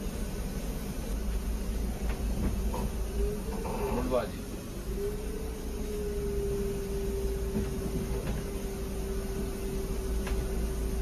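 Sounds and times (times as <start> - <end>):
bus engine running low: 0.0 - 11.0
constant whine: 0.0 - 11.0.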